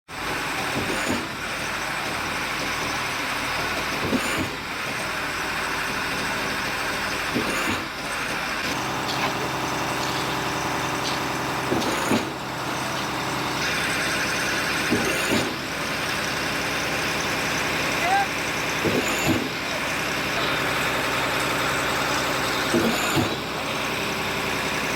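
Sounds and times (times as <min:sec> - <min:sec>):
diesel engine running under load: 0:00.1 - 0:24.9.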